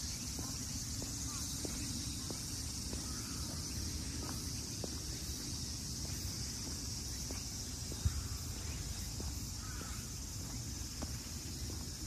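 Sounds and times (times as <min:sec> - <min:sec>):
footsteps on asphalt: 0:00.0 - 0:12.0
insects droning: 0:00.0 - 0:12.0
wind on microphone: 0:00.0 - 0:12.0.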